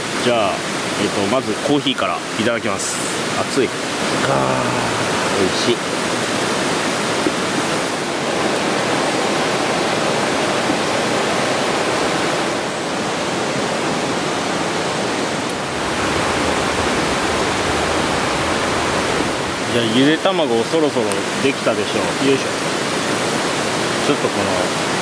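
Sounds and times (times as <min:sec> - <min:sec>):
stream flowing over rocks: 0:00.0 - 0:25.0.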